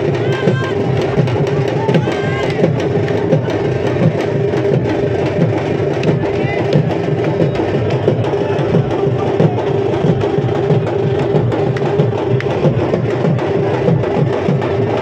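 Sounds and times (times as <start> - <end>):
drums beating fast rhythm: 0.0 - 15.0.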